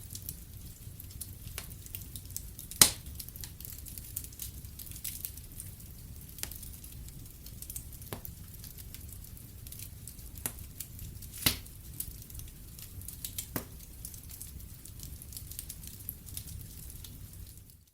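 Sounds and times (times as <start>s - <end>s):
fireplace fire crackling: 0.0s - 17.9s.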